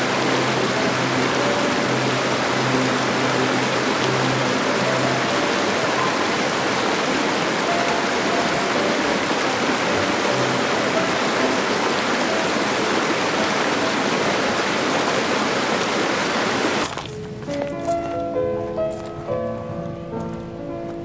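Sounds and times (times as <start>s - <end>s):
creek rushing over rocks: 0.0s - 18.1s.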